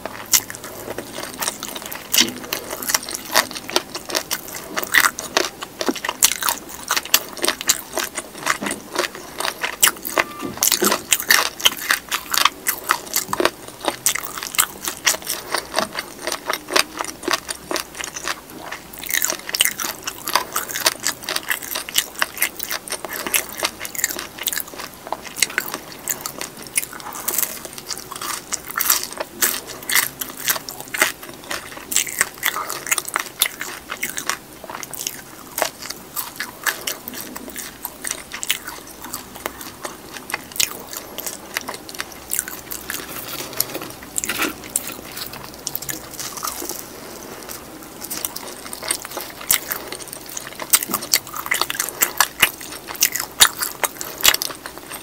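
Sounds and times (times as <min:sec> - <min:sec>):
crunchy fried food chewing: 0:00.0 - 0:55.0.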